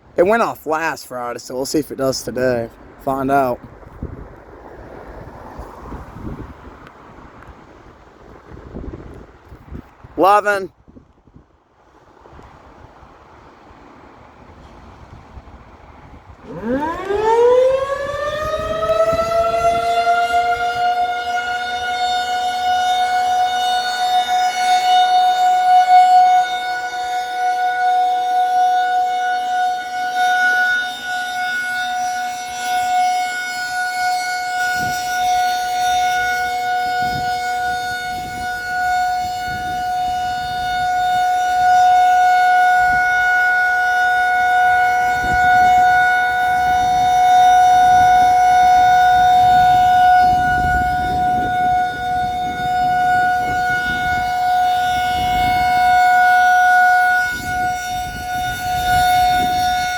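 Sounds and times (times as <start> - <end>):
rotating warning siren: 0.0 - 10.5, 11.9 - 59.9.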